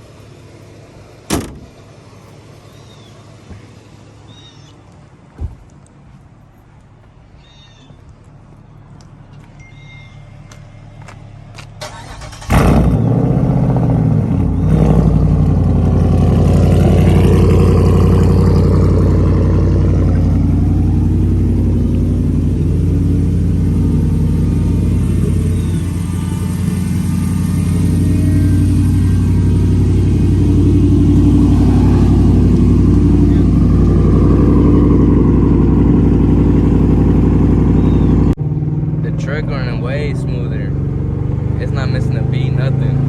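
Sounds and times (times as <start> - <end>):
car engine starting and idling: 8.0 - 43.0.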